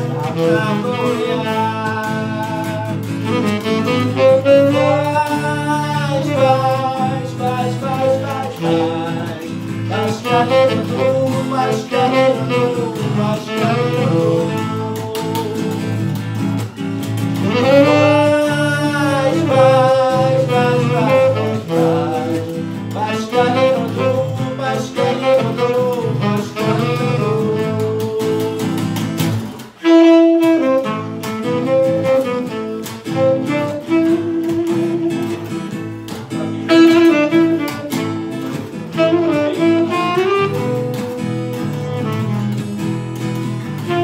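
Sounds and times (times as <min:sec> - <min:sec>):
acoustic guitars playing chords: 0:00.0 - 0:44.0
saxophone solo: 0:00.0 - 0:44.0.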